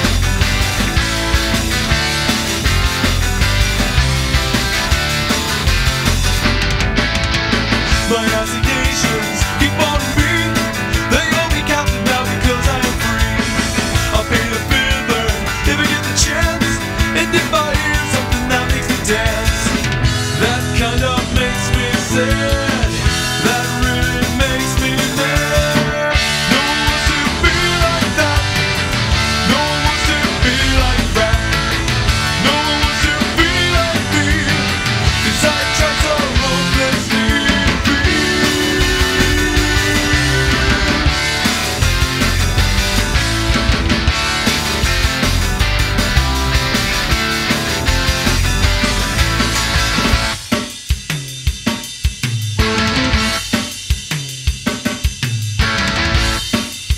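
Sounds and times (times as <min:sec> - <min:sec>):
rock band playing: 0:00.0 - 0:56.9.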